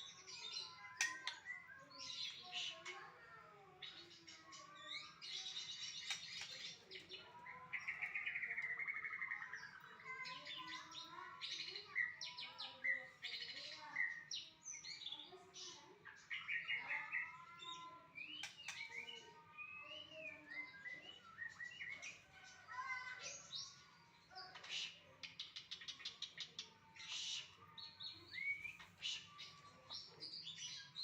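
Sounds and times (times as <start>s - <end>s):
songbird singing whistled notes and trills: 0.0s - 3.0s, 3.8s - 22.3s, 23.1s - 31.0s.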